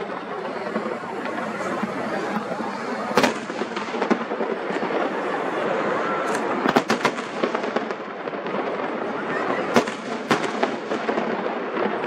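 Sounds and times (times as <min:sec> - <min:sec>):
dense fireworks crackle: 0:00.0 - 0:12.0
fireworks bangs: 0:00.0 - 0:12.0.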